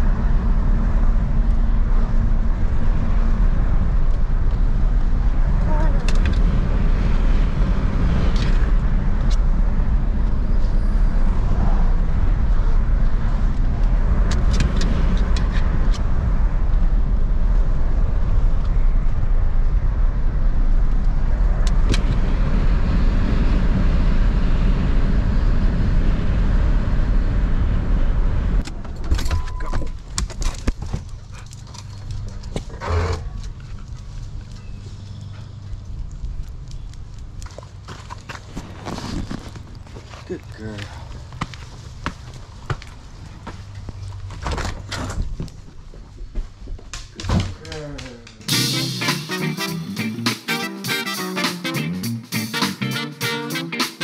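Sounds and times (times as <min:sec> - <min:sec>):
engine and tyre rumble: 0:00.0 - 0:48.7.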